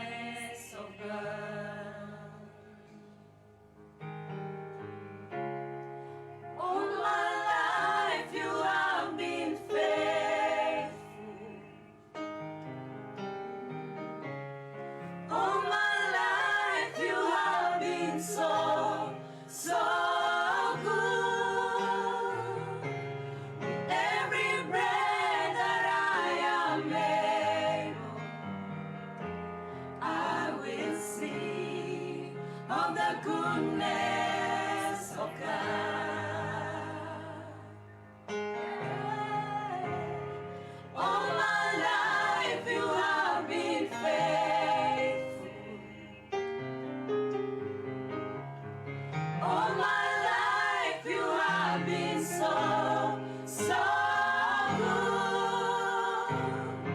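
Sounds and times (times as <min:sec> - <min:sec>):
several voices singing: 0:00.0 - 0:03.4, 0:06.4 - 0:12.7, 0:15.0 - 0:47.0, 0:49.3 - 0:56.9.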